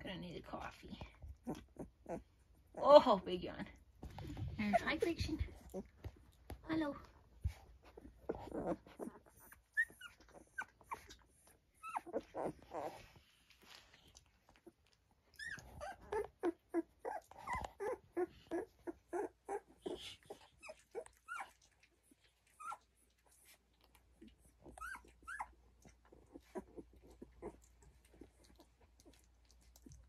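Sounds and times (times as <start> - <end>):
puppies squeaking and whimpering: 1.2 - 2.9, 4.3 - 6.3, 7.4 - 30.0.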